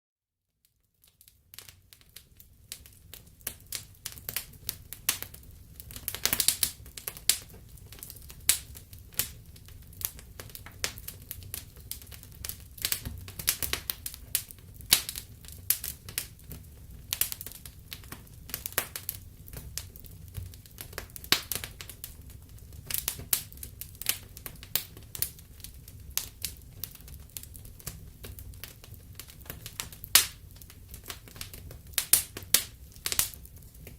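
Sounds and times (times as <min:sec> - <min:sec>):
wood fire crackling: 0:00.7 - 0:33.9.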